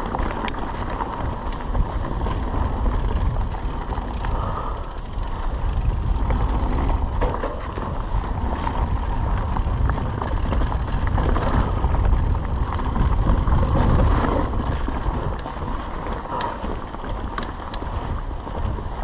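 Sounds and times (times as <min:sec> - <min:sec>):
bike rattling: 0:00.0 - 0:19.0
bike tyres on dirt and stones: 0:00.0 - 0:19.0
wind rumble on microphone: 0:00.0 - 0:19.0.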